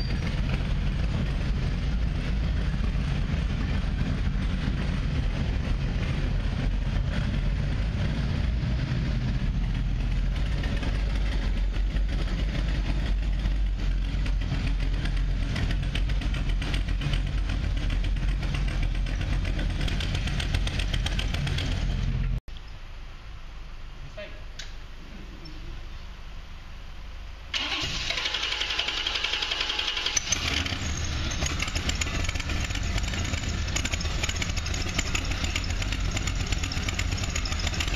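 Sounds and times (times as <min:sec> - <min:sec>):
motorcycle engine running steadily: 0:00.0 - 0:22.4, 0:28.5 - 0:37.9.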